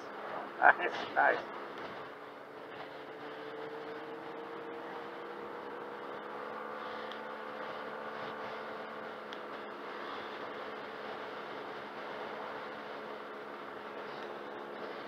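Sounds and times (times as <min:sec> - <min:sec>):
road and wind noise: 0:00.0 - 0:15.0
scooter engine running: 0:01.4 - 0:15.0.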